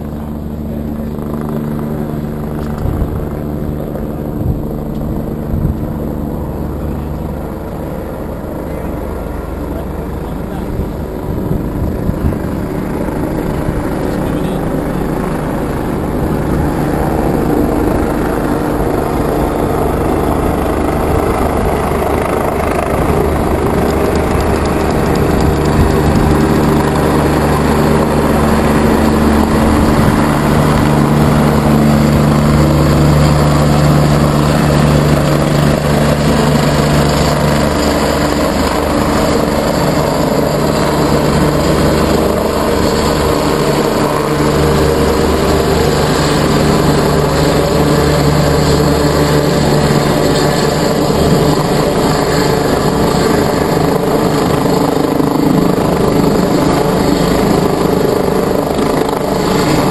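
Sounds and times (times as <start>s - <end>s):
helicopter approaching: 0.0s - 59.9s
steady low hum: 0.0s - 59.9s.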